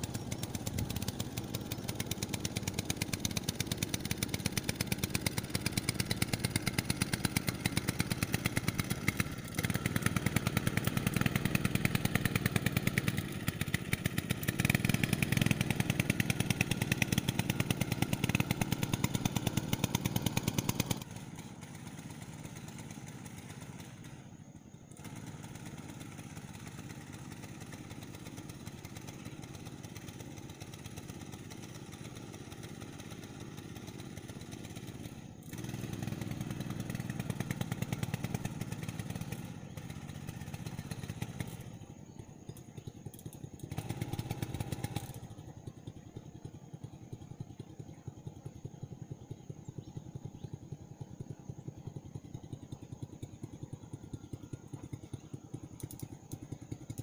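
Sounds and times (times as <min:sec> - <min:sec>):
small outboard motor running: 0:00.0 - 0:57.0.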